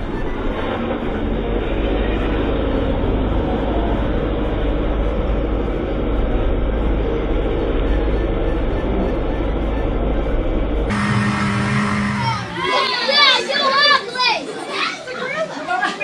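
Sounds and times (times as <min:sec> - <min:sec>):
vehicle engine rumbling: 0:00.0 - 0:13.2.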